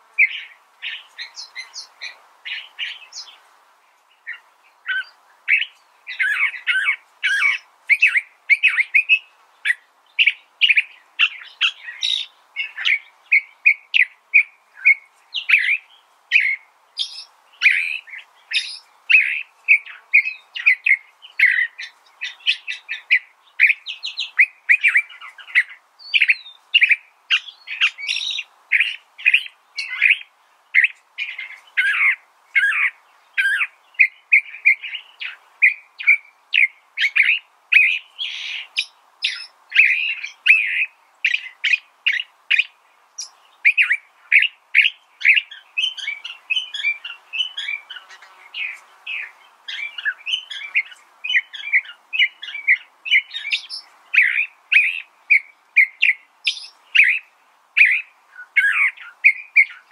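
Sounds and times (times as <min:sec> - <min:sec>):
bird singing varied notes: 0:00.0 - 0:59.9.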